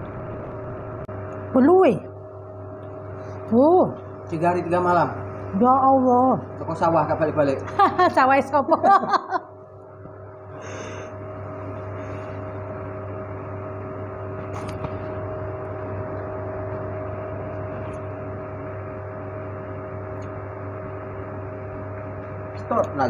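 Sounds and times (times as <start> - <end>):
desk fan motor hum: 0.0 - 23.0.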